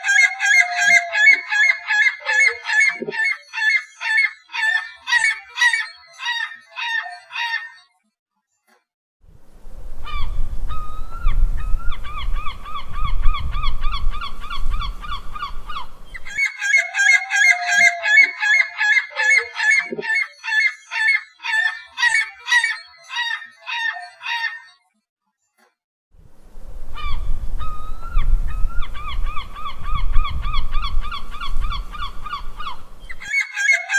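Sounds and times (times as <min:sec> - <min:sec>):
seagulls squawking: 0:00.0 - 0:07.8, 0:10.0 - 0:24.8, 0:27.0 - 0:33.9.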